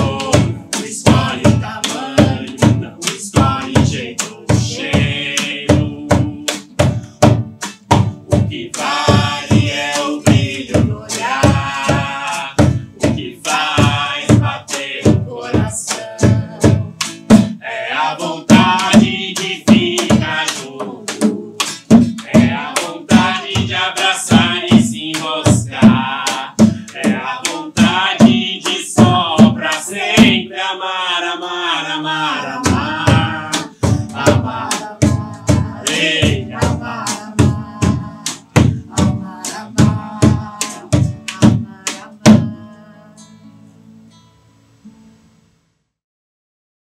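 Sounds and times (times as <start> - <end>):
man and woman singing: 0.0 - 7.0, 8.2 - 43.6
hand drum beat: 0.0 - 30.7, 32.4 - 42.9.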